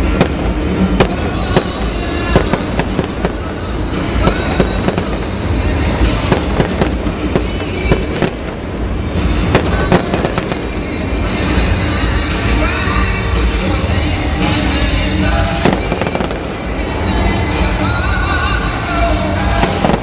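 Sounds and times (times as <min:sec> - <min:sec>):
fireworks bangs and crackles: 0:00.0 - 0:12.1, 0:15.2 - 0:18.2, 0:19.0 - 0:20.0
continuous rumble: 0:00.0 - 0:20.0.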